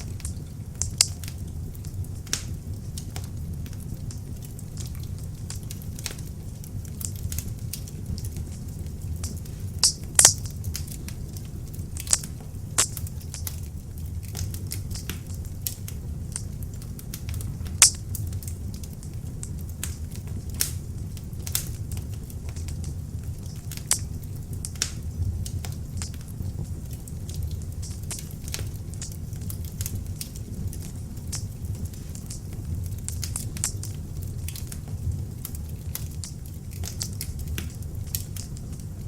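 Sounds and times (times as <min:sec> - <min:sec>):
log fire crackling and popping: 0:00.0 - 0:39.0.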